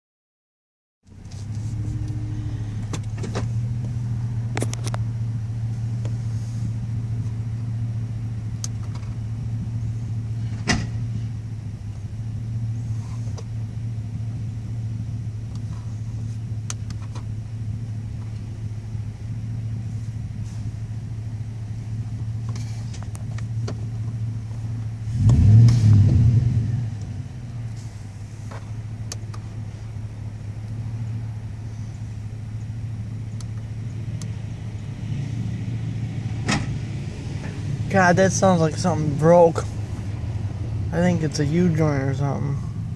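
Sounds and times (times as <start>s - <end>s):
drivetrain clunk and rumble: 1.0s - 42.9s
engine idling: 1.0s - 42.9s.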